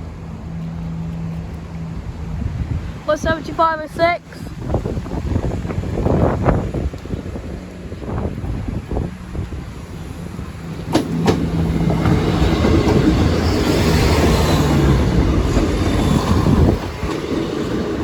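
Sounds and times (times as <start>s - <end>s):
train engine hum: 0.0s - 18.0s
train wheel rumble: 0.0s - 18.0s.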